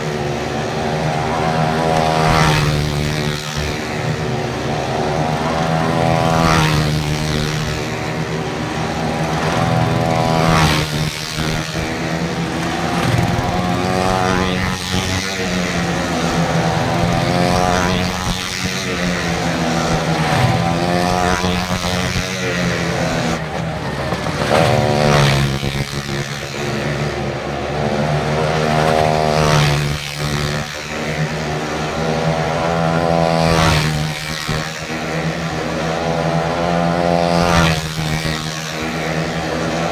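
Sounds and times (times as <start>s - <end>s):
motor engines running hard: 0.0s - 39.9s.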